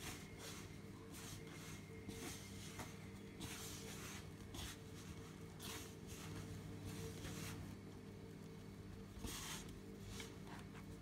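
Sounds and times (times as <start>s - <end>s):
hand kneading dough in bowl: 0.0s - 7.9s, 9.1s - 11.0s.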